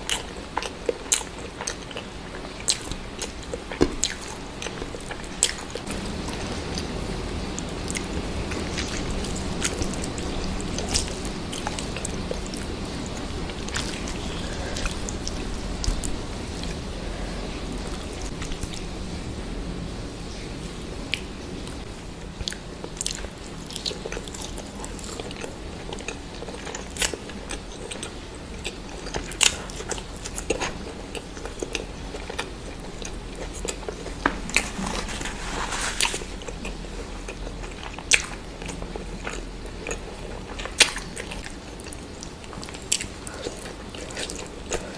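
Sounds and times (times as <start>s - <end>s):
person chewing and crunching food: 0.0s - 7.0s, 7.6s - 18.8s, 21.1s - 44.9s.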